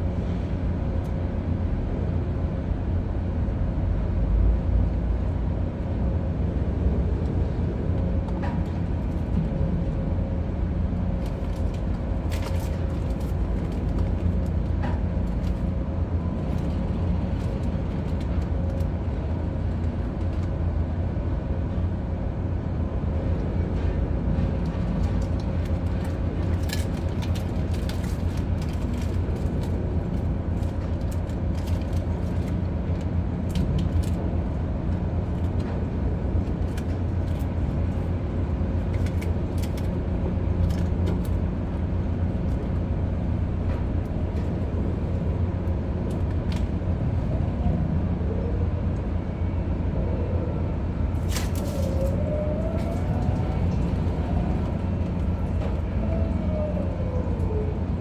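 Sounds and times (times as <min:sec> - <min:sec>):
machinery low hum: 0:00.0 - 0:58.0.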